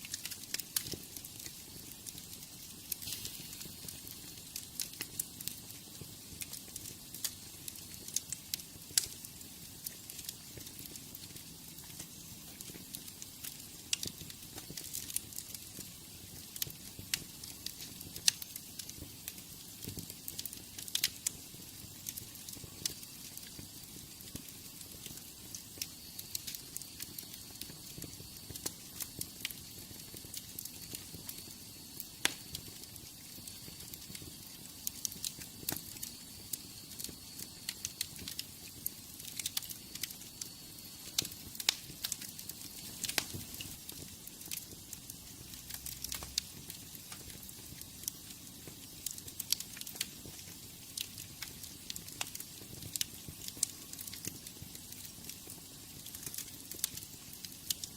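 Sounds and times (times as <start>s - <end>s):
soft fire hiss: 0.0s - 57.9s
wood fire crackling: 0.0s - 57.9s.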